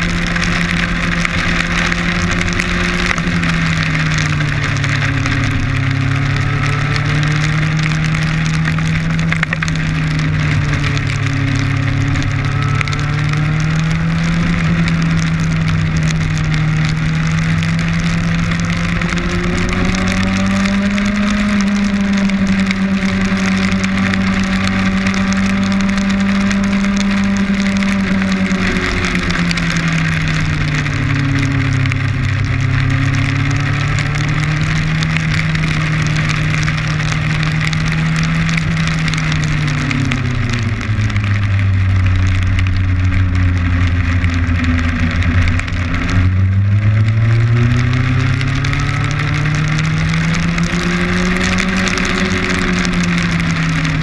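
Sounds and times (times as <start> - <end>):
heavy rain: 0.0 - 54.0
motorcycle engine running: 0.0 - 54.0.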